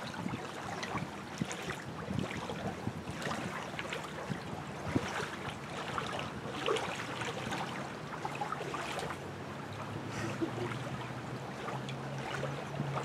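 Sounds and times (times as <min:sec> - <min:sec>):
water: 0:00.0 - 0:13.0
wind: 0:00.0 - 0:13.0.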